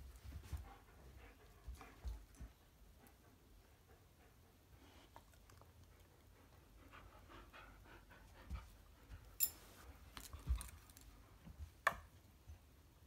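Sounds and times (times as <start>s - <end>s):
dog panting softly: 0.2s - 10.8s.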